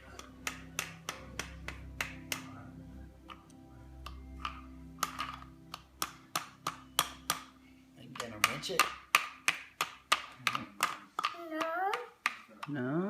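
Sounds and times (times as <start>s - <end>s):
plastic toy tools tapping: 0.0s - 2.5s, 3.2s - 7.5s, 8.1s - 13.0s.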